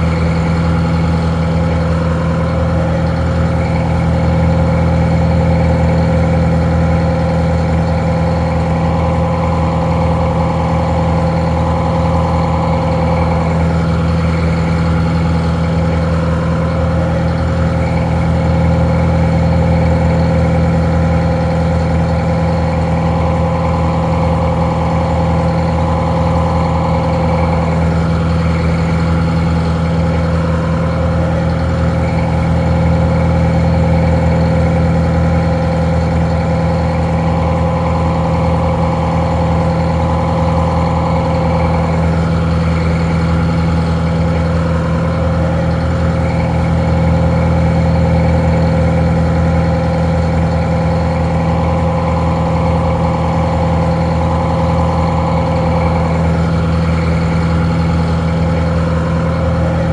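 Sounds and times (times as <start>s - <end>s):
muffled diesel engine idling: 0.0s - 59.9s.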